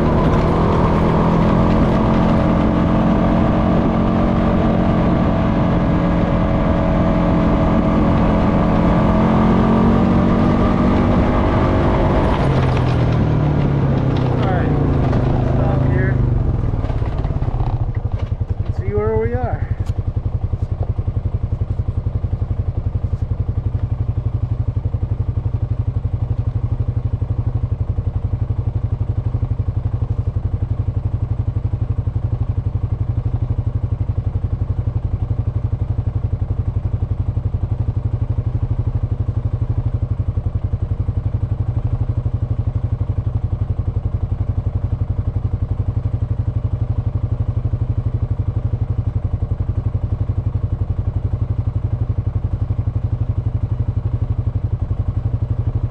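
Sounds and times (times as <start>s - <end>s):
atv engine running steadily: 0.0s - 55.9s.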